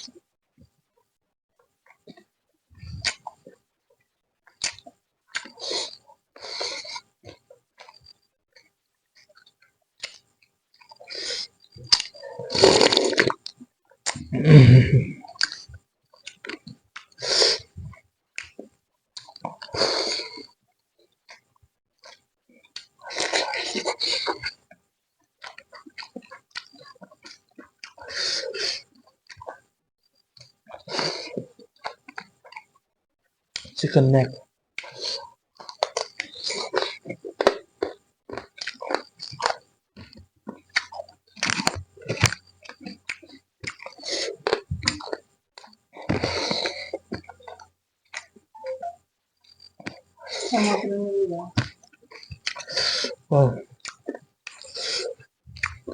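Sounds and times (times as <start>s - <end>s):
person chewing and smacking: 1.8s - 3.6s, 4.5s - 20.6s, 21.2s - 29.6s, 30.2s - 32.8s, 33.5s - 50.8s, 51.5s - 55.9s.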